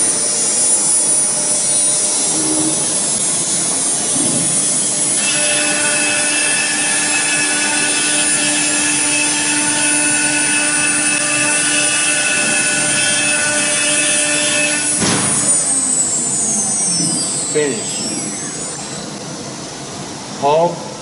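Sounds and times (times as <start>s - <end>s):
falling whine: 0.0s - 20.3s
cnc router spindle whine: 0.0s - 21.0s.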